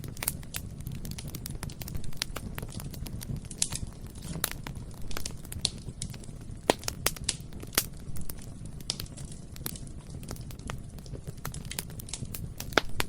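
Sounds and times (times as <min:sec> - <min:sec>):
bonfire crackling and popping: 0:00.0 - 0:13.0
low rumble of flames: 0:00.0 - 0:13.0.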